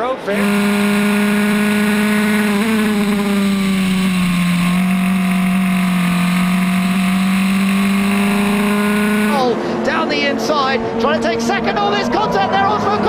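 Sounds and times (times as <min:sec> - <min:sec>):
race car engine at high revs: 0:00.0 - 0:11.8.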